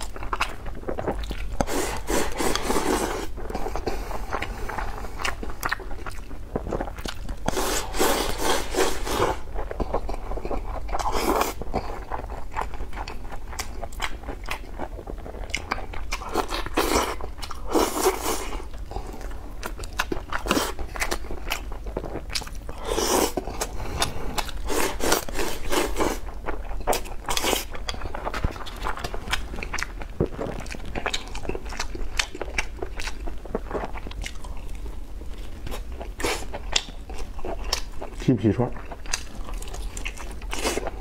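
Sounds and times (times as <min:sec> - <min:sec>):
wet chewing mouth sounds: 0:00.0 - 0:41.0.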